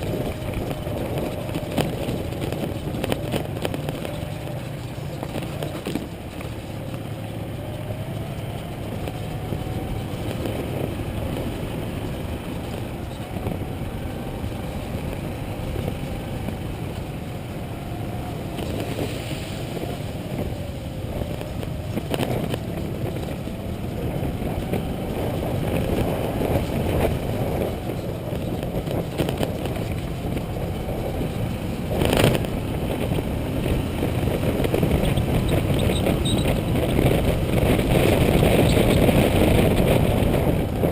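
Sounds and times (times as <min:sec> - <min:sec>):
motorcycle engine: 0:00.0 - 0:40.9
rush of noise: 0:00.0 - 0:40.9.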